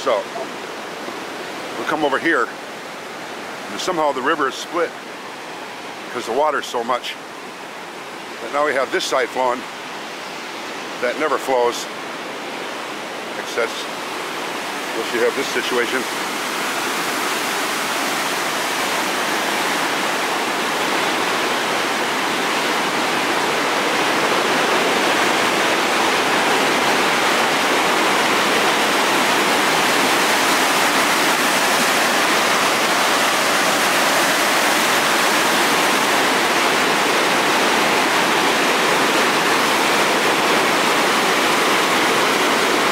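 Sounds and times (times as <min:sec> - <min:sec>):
river rushing in flood: 0:00.0 - 0:42.9.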